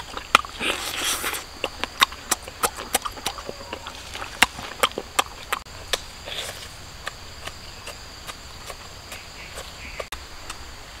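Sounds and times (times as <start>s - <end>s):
crunchy rustle: 0.0s - 10.6s
wet chewing smacks: 0.0s - 10.6s.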